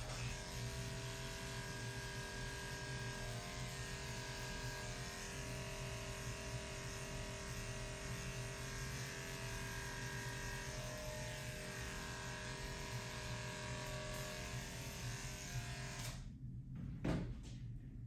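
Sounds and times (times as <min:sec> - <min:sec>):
electric clippers humming: 0:00.0 - 0:16.2.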